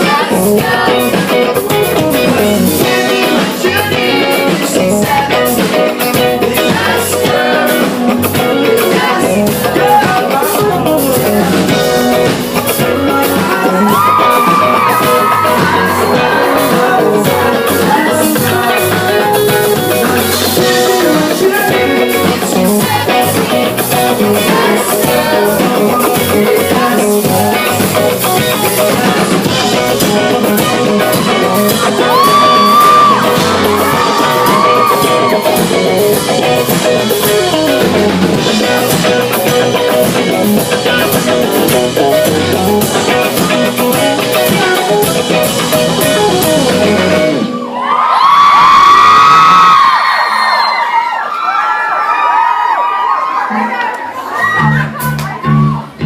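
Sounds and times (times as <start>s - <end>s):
live pop-rock band with vocals: 0.0s - 56.0s.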